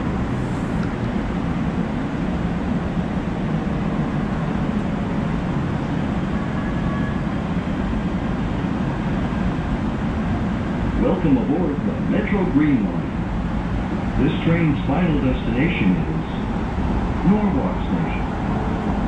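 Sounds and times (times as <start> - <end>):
train car rumble and hiss: 0.0 - 19.0.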